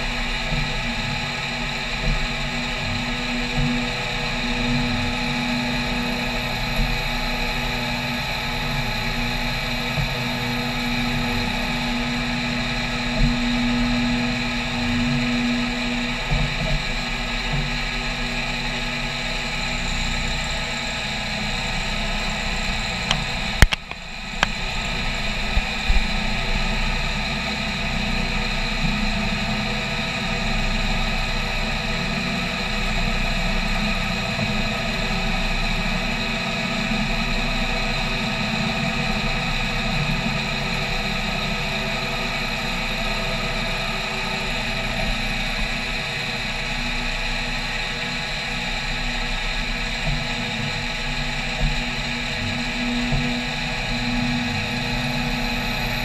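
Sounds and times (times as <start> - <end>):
milling machine cutting whine: 0.0 - 56.0.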